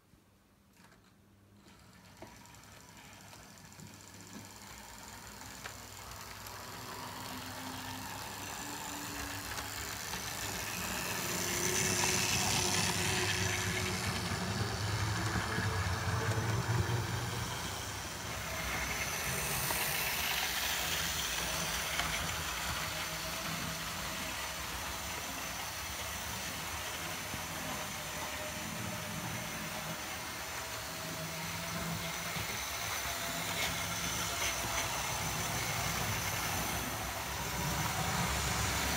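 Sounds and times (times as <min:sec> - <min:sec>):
model train motor whirring: 0:01.6 - 0:38.9
wheels rattling on rails: 0:01.6 - 0:38.9.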